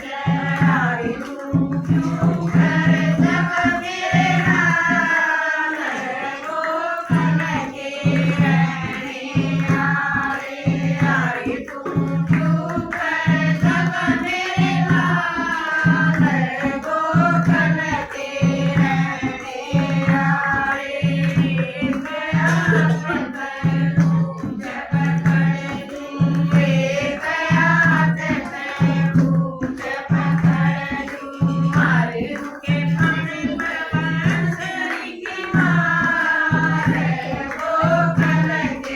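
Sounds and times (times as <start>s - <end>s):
person singing devotional song: 0.0s - 38.9s
steady drum beat: 0.0s - 38.9s.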